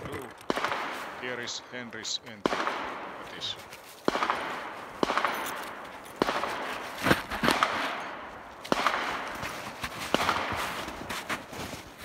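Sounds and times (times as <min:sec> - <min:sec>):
gunshots echoing: 0:00.0 - 0:10.9.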